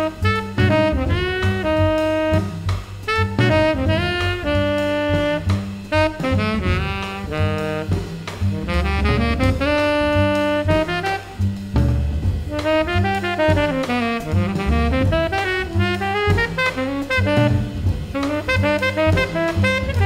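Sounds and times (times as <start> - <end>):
drum kit keeping time: 0.0 - 20.0
saxophone melody: 0.0 - 20.0.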